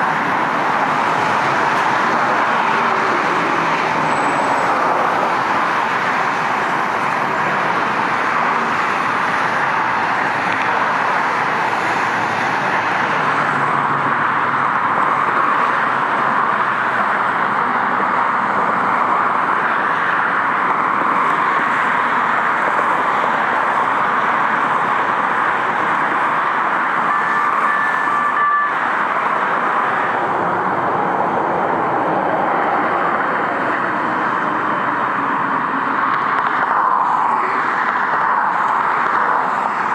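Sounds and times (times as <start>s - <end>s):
heavy freeway traffic: 0.0s - 39.9s.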